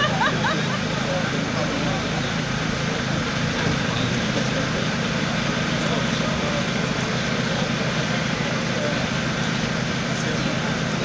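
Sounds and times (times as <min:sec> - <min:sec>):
engine idling: 0:00.0 - 0:11.0
street noise: 0:00.0 - 0:11.0.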